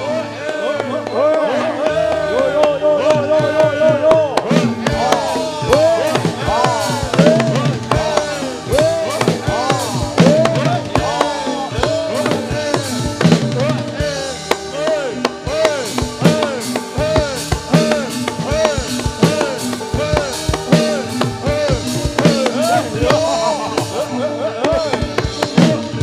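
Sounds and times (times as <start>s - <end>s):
drums beating driving rhythm: 0.0s - 26.0s.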